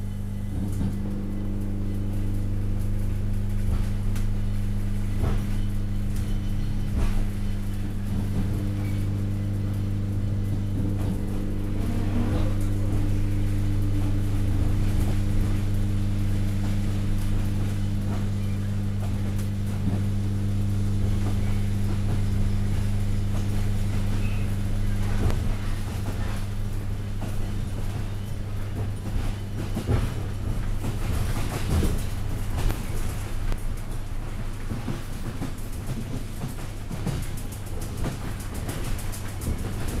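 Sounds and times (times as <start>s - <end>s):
electric train hum: 0.0s - 40.0s
train running noise: 3.6s - 40.0s.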